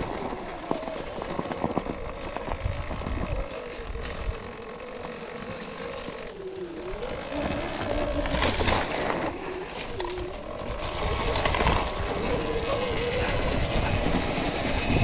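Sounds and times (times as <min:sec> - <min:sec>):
bike rattling on rough trail: 0:00.0 - 0:15.0
electric motor whining: 0:00.0 - 0:15.0.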